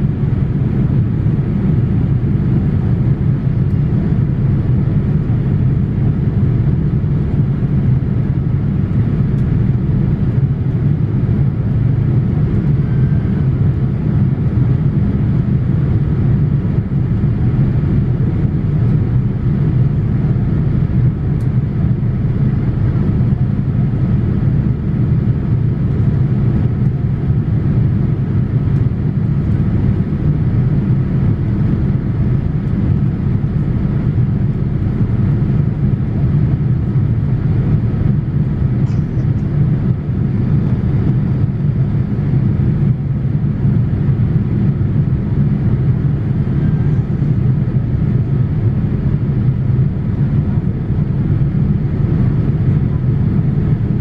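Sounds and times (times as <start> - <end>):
airliner cabin engine roar: 0.0 - 54.0.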